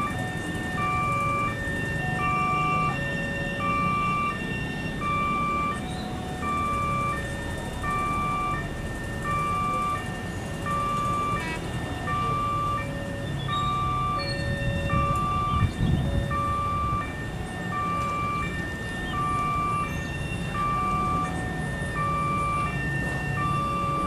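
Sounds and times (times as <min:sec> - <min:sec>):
level crossing warning alarm: 0:00.0 - 0:24.0
train low rumble: 0:00.0 - 0:24.0.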